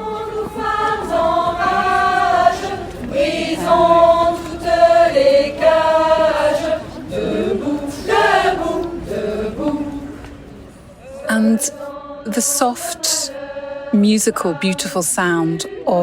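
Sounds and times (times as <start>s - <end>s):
women's choir singing in unison: 0.0s - 16.0s.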